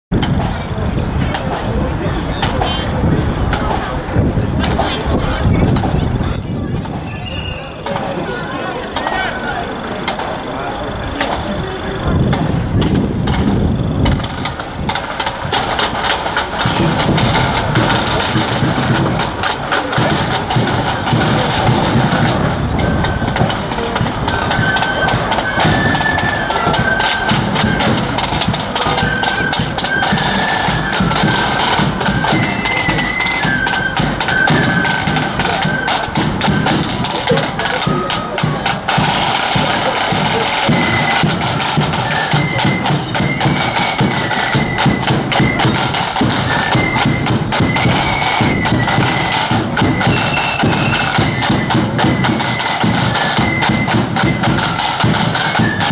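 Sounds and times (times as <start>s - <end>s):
bass drum beat: 0.1s - 9.2s, 11.1s - 53.1s
side drums beating: 0.1s - 55.9s
flutes playing melody: 0.2s - 55.9s.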